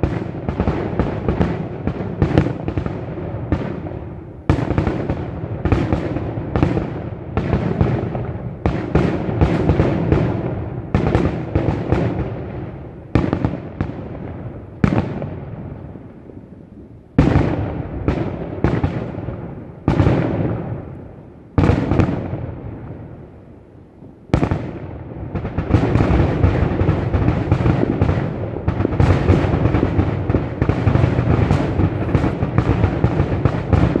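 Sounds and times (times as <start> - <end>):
fireworks booming: 0.0 - 23.4, 24.0 - 34.0.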